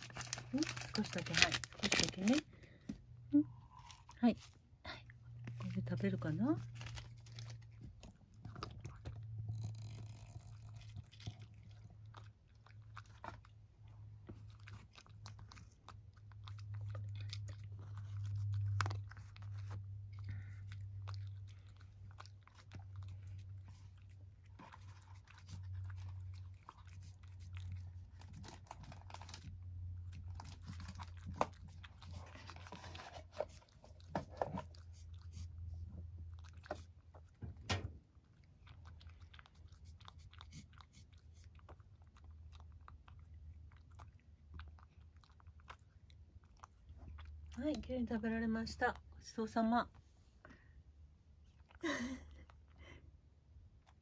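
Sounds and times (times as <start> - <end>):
cat crunching food: 0.0 - 2.9, 3.6 - 49.6
low steady hum: 0.0 - 54.0.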